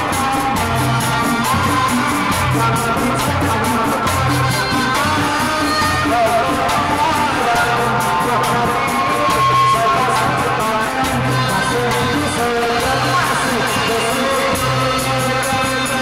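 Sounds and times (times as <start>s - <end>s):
woman singing through loudspeaker: 0.0s - 16.0s.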